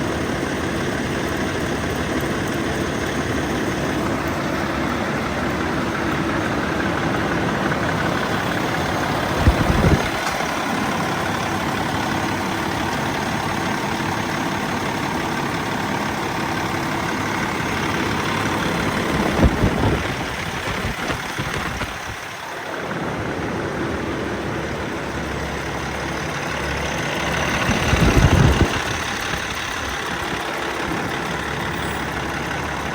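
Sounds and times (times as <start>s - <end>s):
diesel engine idling: 0.0s - 32.9s
low engine bursts: 0.0s - 32.9s.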